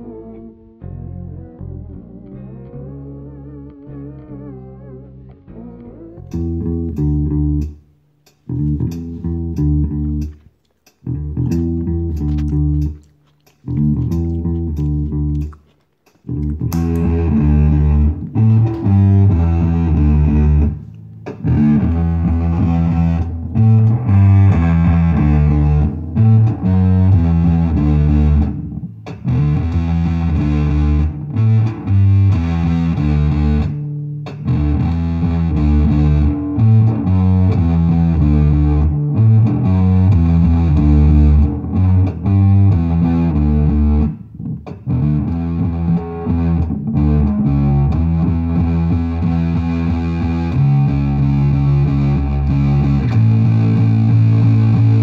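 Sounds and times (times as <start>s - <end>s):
distorted electric bass line: 0.0s - 7.9s, 8.5s - 10.4s, 11.1s - 13.1s, 13.7s - 15.6s, 16.3s - 55.0s.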